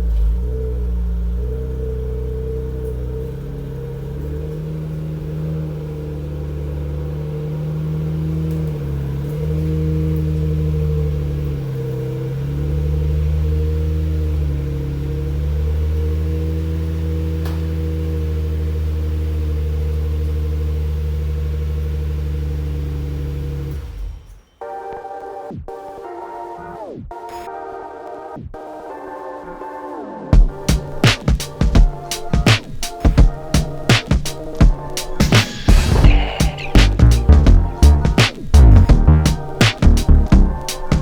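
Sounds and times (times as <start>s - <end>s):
car engine idling: 0.0s - 24.2s, 30.4s - 41.0s.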